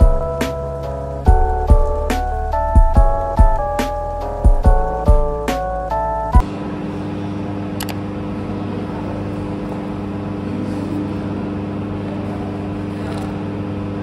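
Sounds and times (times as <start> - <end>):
pottery wheel motor hum: 0.0 - 14.0.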